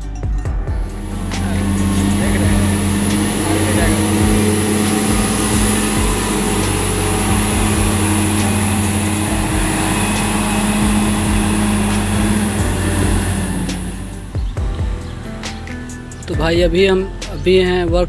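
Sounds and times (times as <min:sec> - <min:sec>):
vehicle engine humming: 0:00.7 - 0:16.4.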